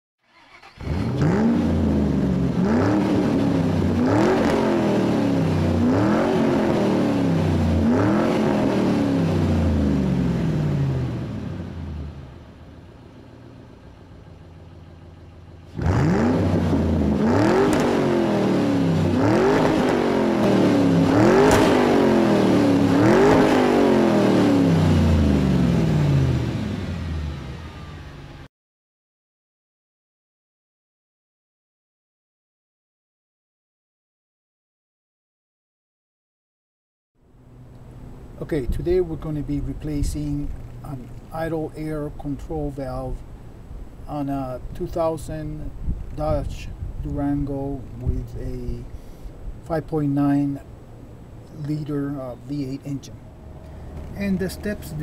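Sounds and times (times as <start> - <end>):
car engine revving: 0.3 - 28.5, 37.4 - 55.0.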